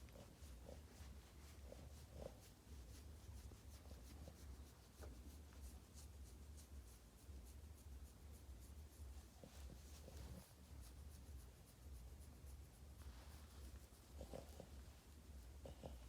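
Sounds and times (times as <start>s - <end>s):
dog rustling and rubbing: 0.0s - 16.0s
low steady rumble: 0.0s - 16.0s.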